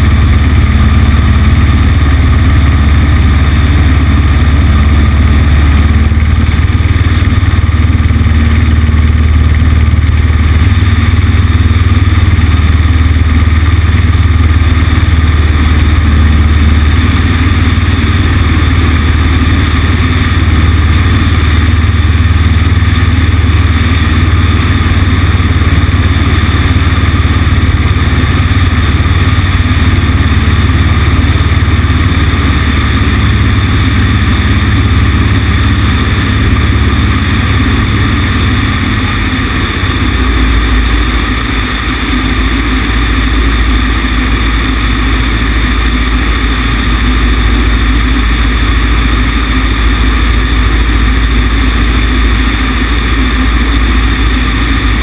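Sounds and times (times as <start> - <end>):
airplane engine droning: 0.0 - 55.0
rush of air: 0.0 - 55.0.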